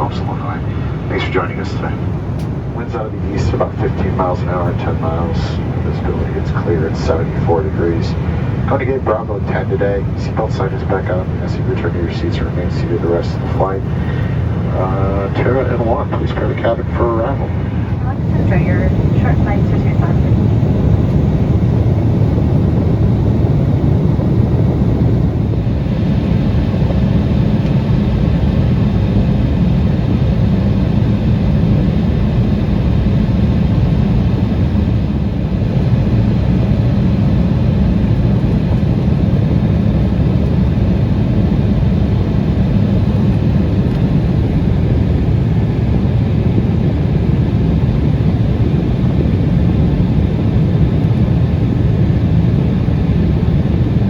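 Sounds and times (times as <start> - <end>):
jet engine hum: 0.0 - 54.0.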